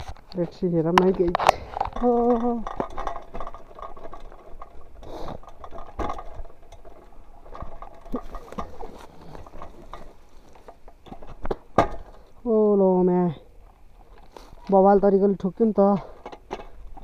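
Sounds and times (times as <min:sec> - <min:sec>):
bike clicks and rattles: 0:00.0 - 0:12.4, 0:13.1 - 0:17.0
bike tyres on dirt: 0:00.0 - 0:17.0.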